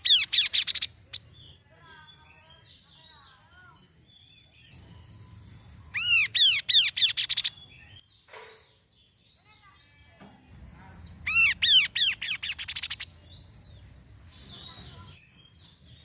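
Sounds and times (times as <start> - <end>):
faint bird calls: 0.0 - 8.7, 9.4 - 16.0
bird singing trilling phrases: 0.0 - 16.0.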